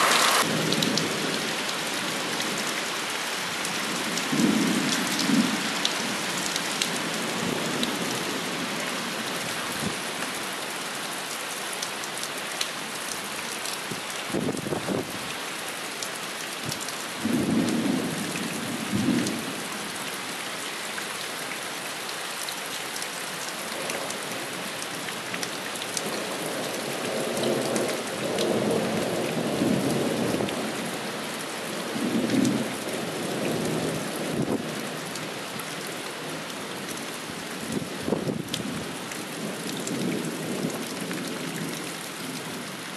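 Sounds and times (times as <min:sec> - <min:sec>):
rain downpour: 0:00.0 - 0:42.9.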